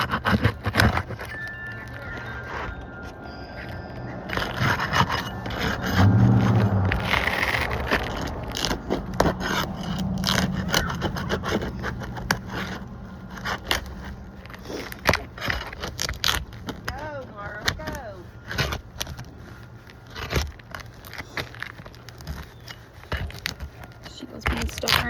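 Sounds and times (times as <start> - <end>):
shingles scraping and crackling: 0.0 - 25.0.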